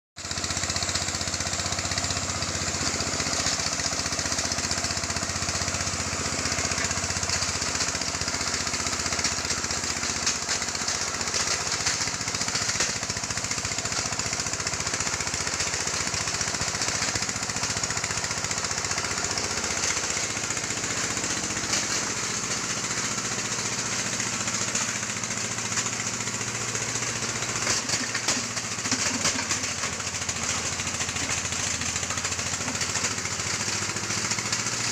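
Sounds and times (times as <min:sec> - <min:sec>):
dense continuous clatter: 0:06.5 - 0:34.9.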